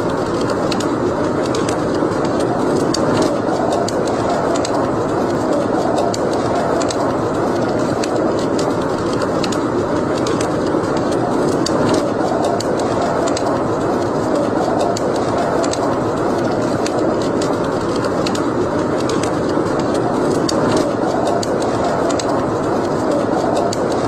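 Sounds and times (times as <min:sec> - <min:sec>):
fire crackling and popping: 0:00.0 - 0:24.0
low noise of flames: 0:00.0 - 0:24.0.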